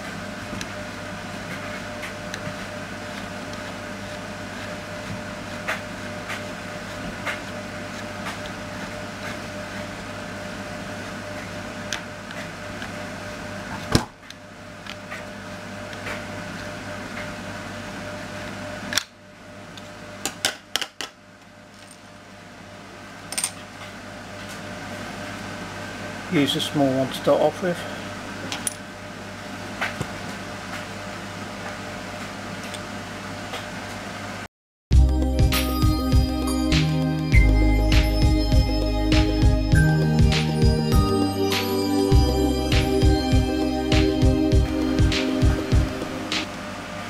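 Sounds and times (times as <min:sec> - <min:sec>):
steady background hum: 0:00.0 - 0:47.0.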